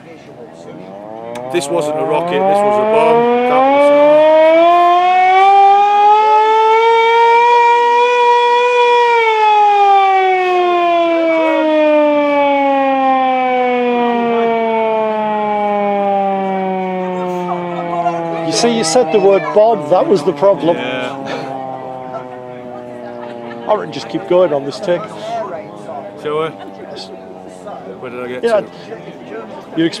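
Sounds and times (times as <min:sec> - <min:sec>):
air-raid siren wailing: 0:00.4 - 0:30.0.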